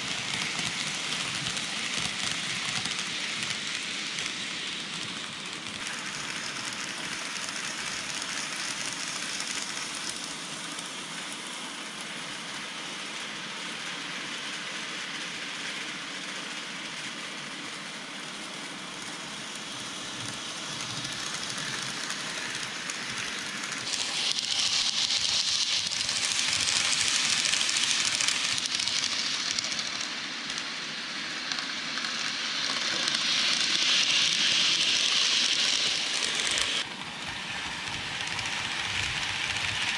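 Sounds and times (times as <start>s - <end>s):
small wheels rattling on rail: 0.0s - 10.7s, 18.4s - 39.9s.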